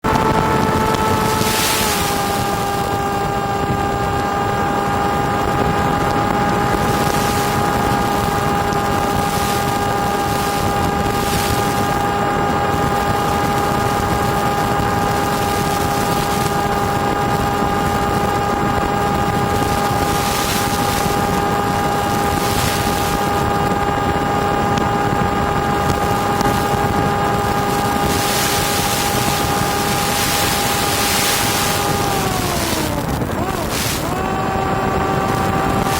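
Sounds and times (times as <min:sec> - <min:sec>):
drone propellers whining: 0:00.0 - 0:35.9
wind rushing over microphone: 0:00.0 - 0:35.9.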